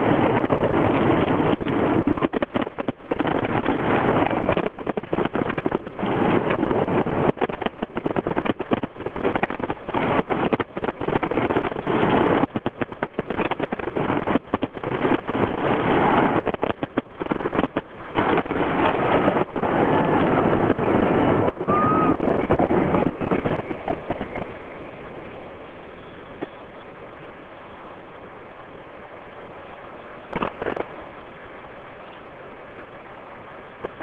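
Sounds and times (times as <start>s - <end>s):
fireworks crackling and bursting: 0.0s - 27.3s, 30.2s - 31.8s
wind buffeting microphone: 0.0s - 34.0s.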